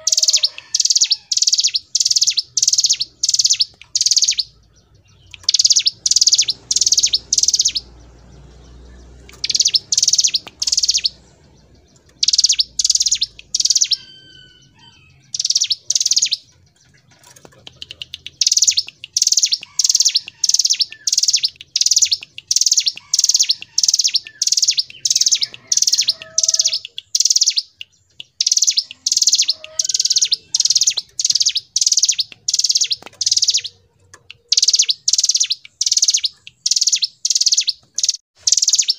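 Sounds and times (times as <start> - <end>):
bird singing chip notes: 0.0 - 38.9.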